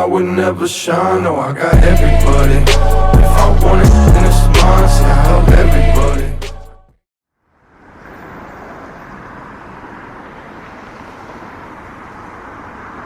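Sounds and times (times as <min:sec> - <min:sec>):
vehicle and street noise: 0:01.8 - 0:13.0.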